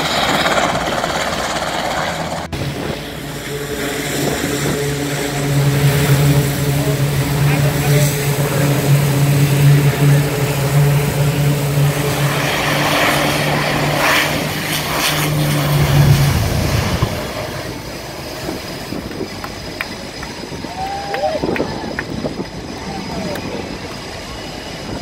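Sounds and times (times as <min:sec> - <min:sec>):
aircraft droning: 0:00.0 - 0:25.0
wind buffeting microphone: 0:00.0 - 0:25.0.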